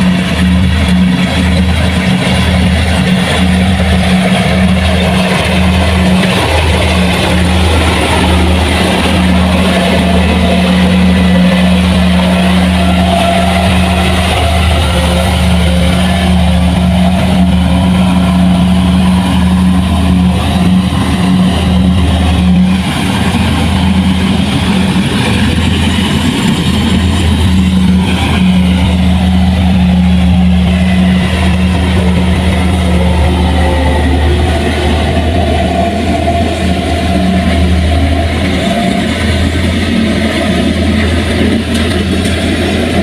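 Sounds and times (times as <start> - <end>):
diesel engine running steadily: 0.0 - 43.0.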